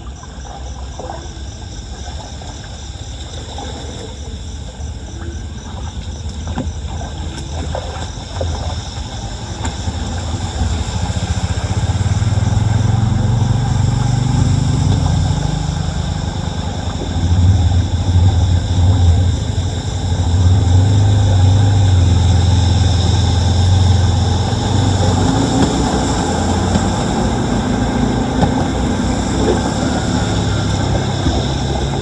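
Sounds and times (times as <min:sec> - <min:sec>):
vehicle engine humming: 0:02.8 - 0:32.0.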